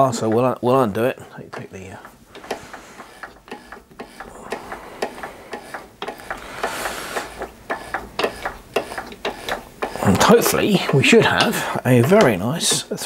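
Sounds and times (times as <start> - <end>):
lathe chuck clicking: 0.0 - 13.0.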